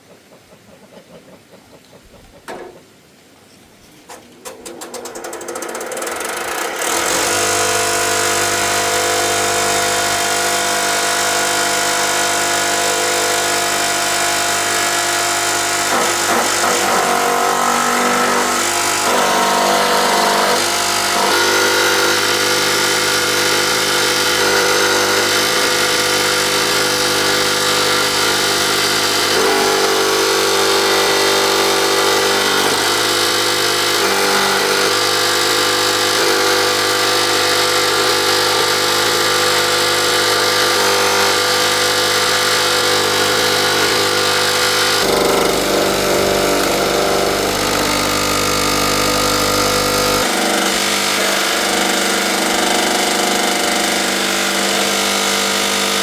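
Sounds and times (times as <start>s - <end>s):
motor running: 4.5s - 56.0s.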